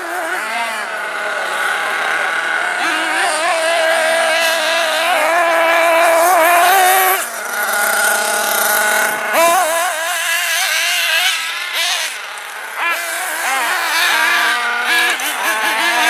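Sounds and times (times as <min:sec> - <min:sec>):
small nitro engine screaming: 0:00.0 - 0:16.0.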